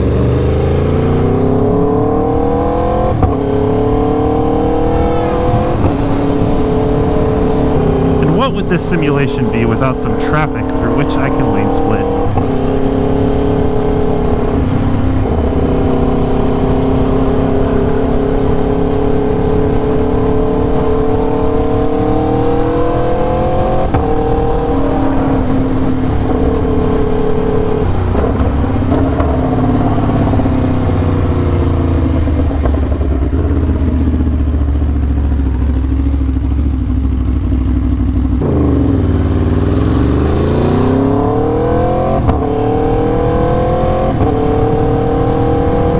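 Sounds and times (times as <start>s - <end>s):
motorcycle engine revving: 0.0s - 8.7s, 11.8s - 45.9s.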